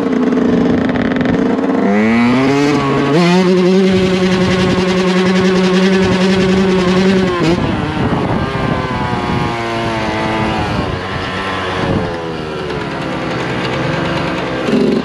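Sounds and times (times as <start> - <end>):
two-stroke dirt bike engine: 0.0 - 15.0.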